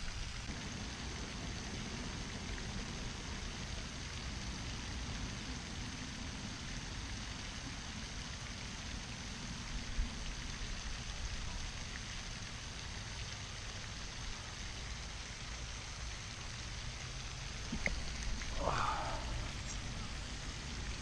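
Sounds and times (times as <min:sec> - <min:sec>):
even hiss: 0:00.0 - 0:21.0.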